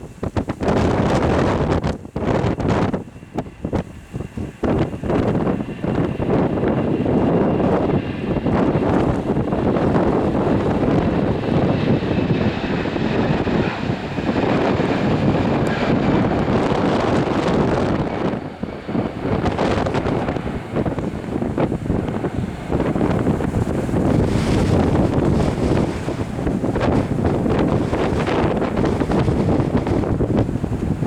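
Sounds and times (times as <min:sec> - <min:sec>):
jet engines roaring: 0:00.0 - 0:31.0
wind buffeting microphone: 0:00.0 - 0:31.0.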